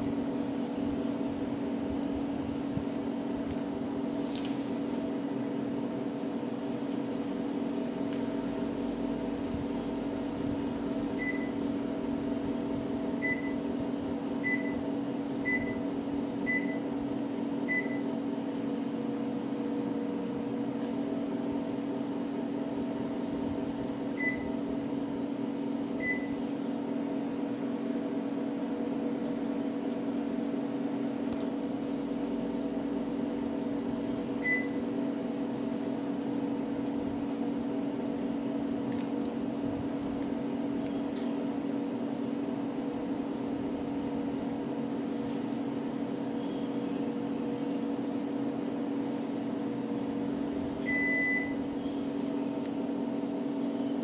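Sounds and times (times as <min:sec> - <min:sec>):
air conditioner humming: 0:00.0 - 0:54.0.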